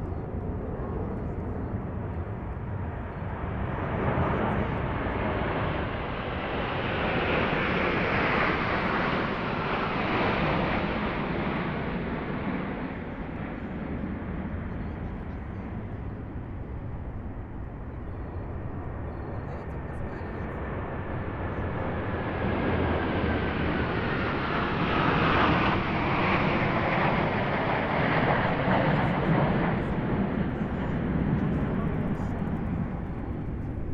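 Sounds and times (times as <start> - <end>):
jet fighters roaring past: 0.2 - 17.8, 19.7 - 33.9.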